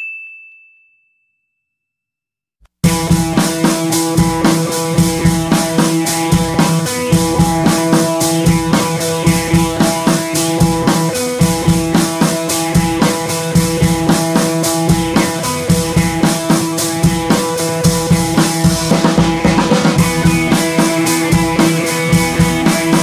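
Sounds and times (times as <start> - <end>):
rock music with drum beat: 2.8 - 23.0.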